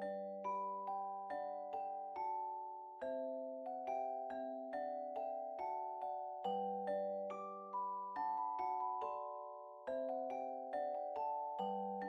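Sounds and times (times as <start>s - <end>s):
gentle tune of ringing notes: 0.0s - 12.0s.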